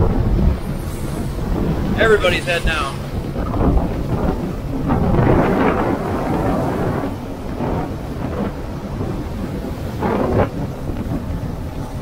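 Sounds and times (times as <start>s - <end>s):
boat engine rumble: 0.0s - 12.0s
hull slapping water: 0.0s - 12.0s
wind buffeting microphone: 0.0s - 12.0s.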